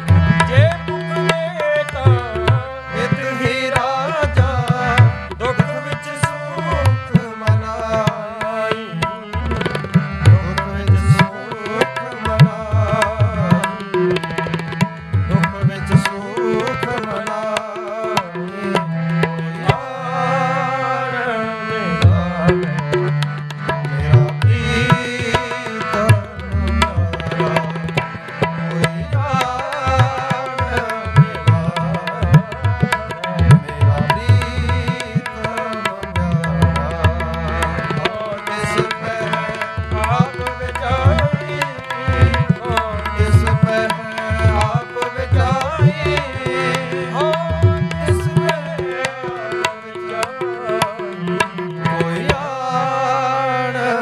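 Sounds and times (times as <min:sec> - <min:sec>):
tabla drumming: 0:00.0 - 0:20.6, 0:21.9 - 0:53.6
sustained melodic accompaniment: 0:00.0 - 0:54.0.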